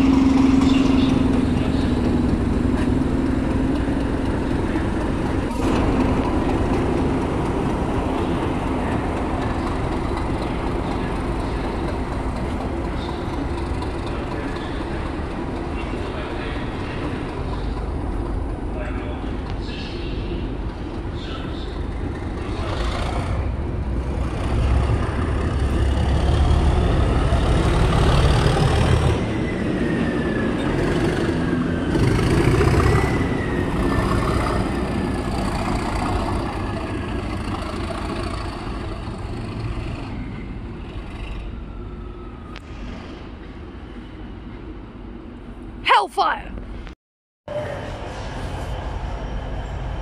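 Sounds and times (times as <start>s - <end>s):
diesel locomotive engine whine: 0.0s - 45.8s, 47.5s - 50.0s
train coaches rumbling: 0.0s - 46.4s, 47.5s - 50.0s.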